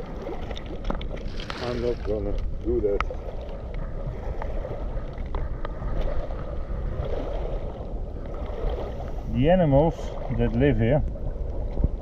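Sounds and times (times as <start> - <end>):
water lapping at shore: 0.0 - 12.0
wind buffeting microphone: 0.0 - 12.0.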